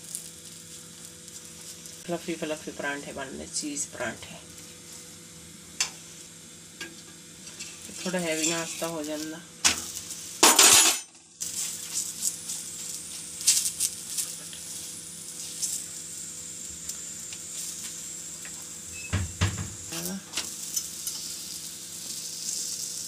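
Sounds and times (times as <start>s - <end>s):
ghee sizzling on a griddle: 0.0s - 23.0s.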